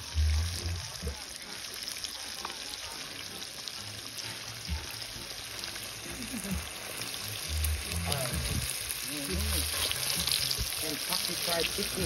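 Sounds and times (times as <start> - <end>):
oil sizzling in a skillet: 0.0 - 12.0.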